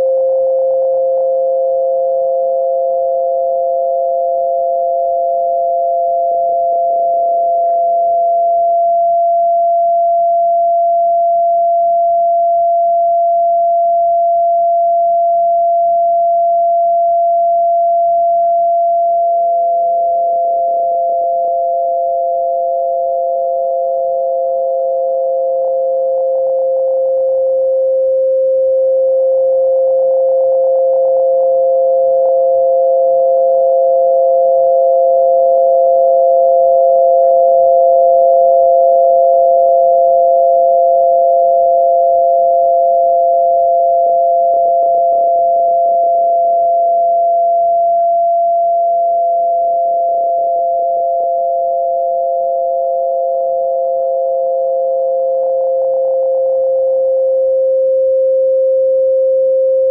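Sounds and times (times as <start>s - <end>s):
high sine-wave tone: 0.0s - 59.9s
low sine-wave tone: 0.0s - 59.9s.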